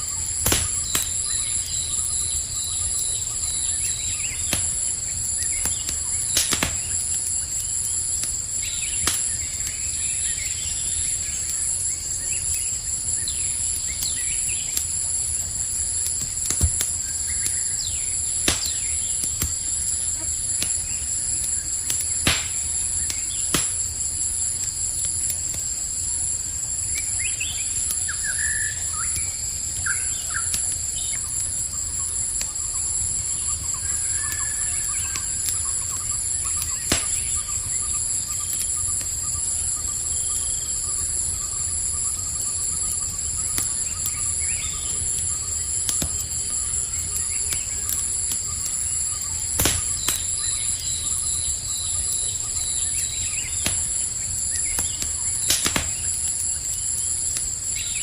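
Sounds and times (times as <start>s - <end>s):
campfire crackling and popping: 0.0s - 58.0s
crickets chirping: 0.0s - 58.0s.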